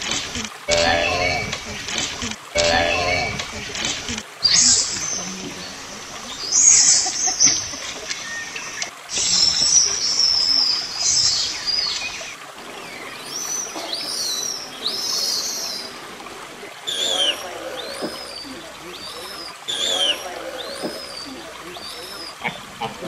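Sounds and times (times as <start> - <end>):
birds chirping shrilly: 0.6 - 16.1, 16.8 - 23.0
rising and falling whistled calls: 0.7 - 2.0, 2.6 - 22.9.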